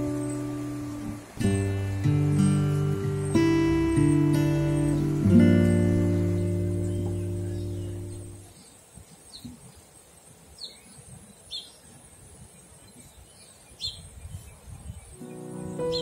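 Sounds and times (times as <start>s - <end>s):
small bird chirping: 0.0s - 9.8s, 12.6s - 16.0s
faint outdoor background hush: 0.0s - 16.0s.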